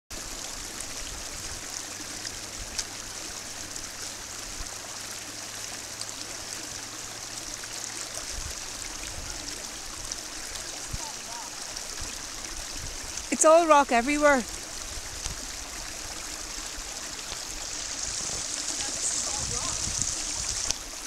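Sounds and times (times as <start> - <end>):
stream running: 0.1 - 21.0.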